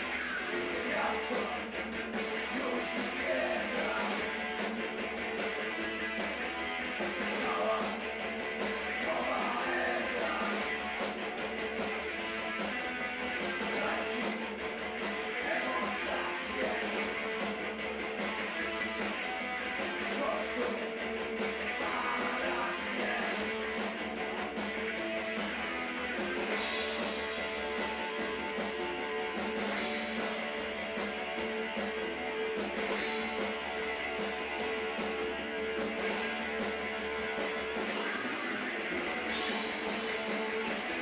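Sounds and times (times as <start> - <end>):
bass guitar: 0.0 - 41.0
drums: 0.0 - 41.0
electric guitar: 0.0 - 41.0.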